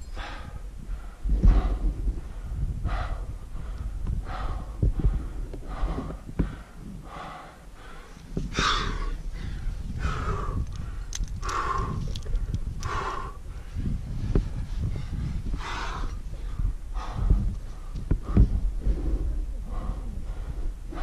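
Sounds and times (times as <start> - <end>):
heavy breathing: 0.1 - 21.0.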